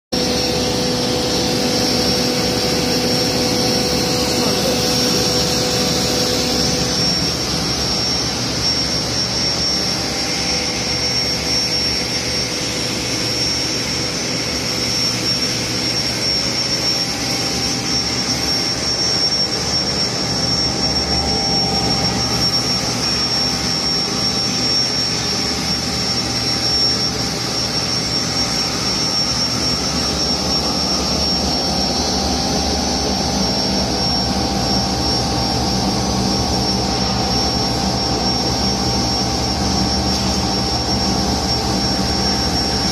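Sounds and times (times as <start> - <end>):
grinder machine whining: 0.2 - 42.9.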